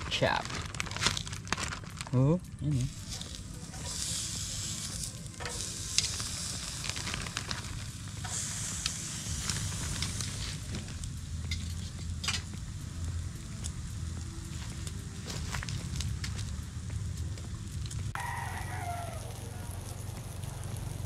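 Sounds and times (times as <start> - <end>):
meat sizzling on a grill: 0.0 - 21.0.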